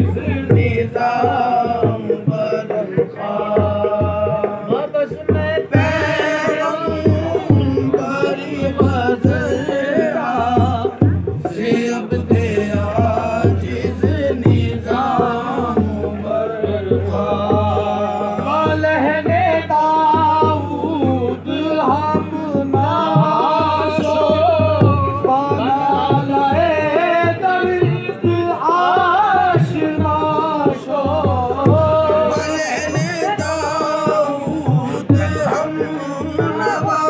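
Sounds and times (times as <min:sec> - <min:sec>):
tabla drumming: 0:00.0 - 0:37.0.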